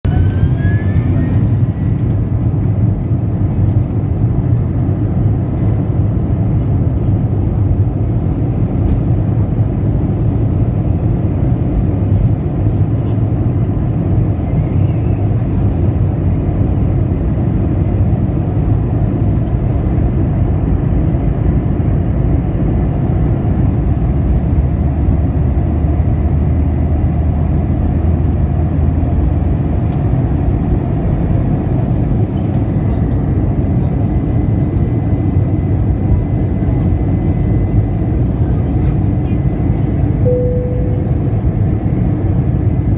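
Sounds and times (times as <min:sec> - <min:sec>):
jet airliner engines rumbling: 0:00.0 - 0:42.9.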